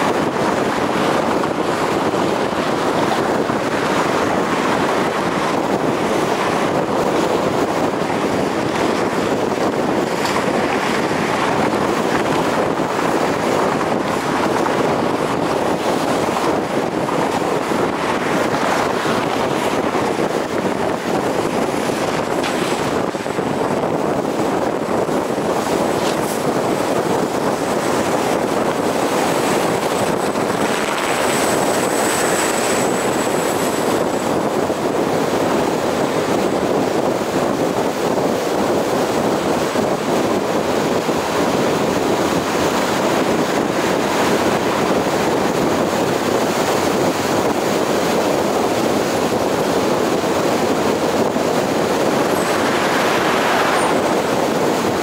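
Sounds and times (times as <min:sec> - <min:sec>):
wind rush: 0:00.0 - 0:55.0.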